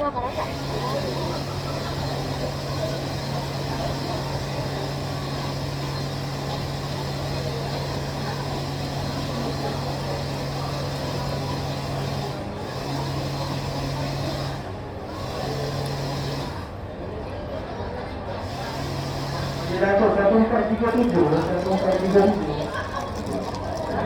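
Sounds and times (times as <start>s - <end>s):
loud background noise with low hum: 0.0s - 24.0s.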